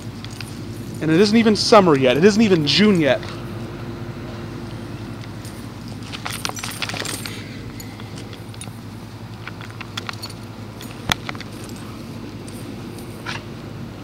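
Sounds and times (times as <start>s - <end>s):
air conditioner humming: 0.0s - 14.0s
light clicks and rattles: 0.1s - 3.4s, 5.2s - 13.4s.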